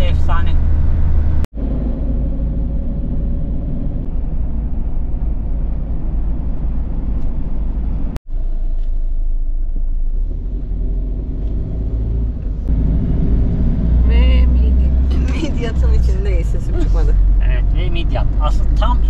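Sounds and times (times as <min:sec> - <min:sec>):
van engine and road rumble: 0:00.0 - 0:19.0.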